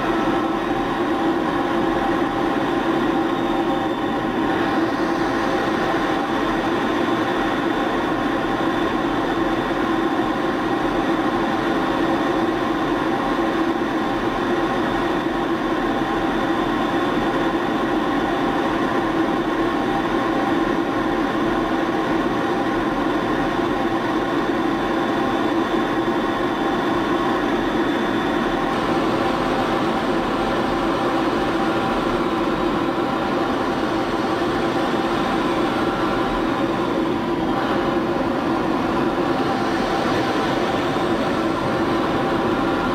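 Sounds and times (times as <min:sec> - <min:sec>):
jet engine and rushing air drone: 0:00.0 - 0:42.9.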